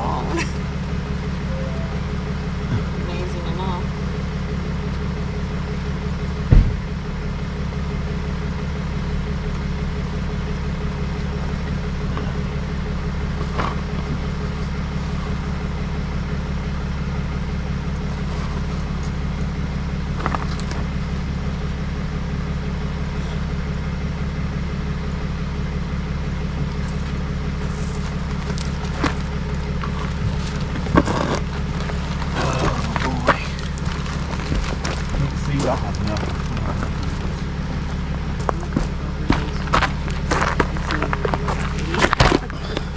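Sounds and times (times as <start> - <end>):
vehicle engine drone: 0.0 - 42.9.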